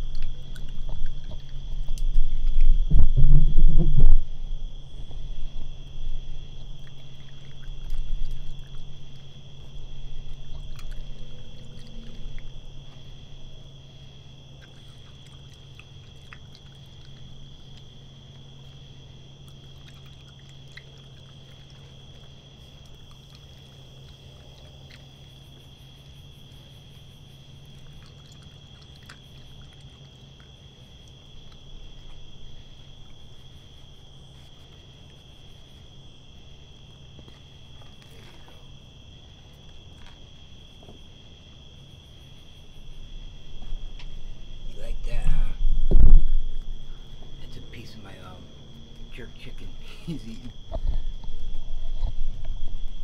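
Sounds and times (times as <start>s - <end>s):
raccoon chewing and rummaging: 0.0s - 2.9s, 3.8s - 53.0s
crickets chirring: 0.0s - 53.0s
low steady hum: 0.0s - 53.0s.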